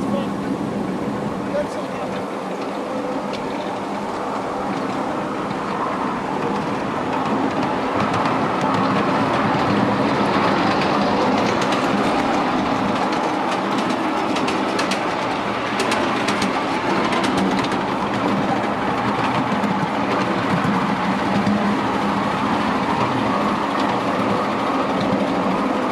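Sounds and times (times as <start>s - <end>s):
miniature train rumbling: 0.0s - 25.9s
wheels clicking over rail joints: 0.0s - 25.9s.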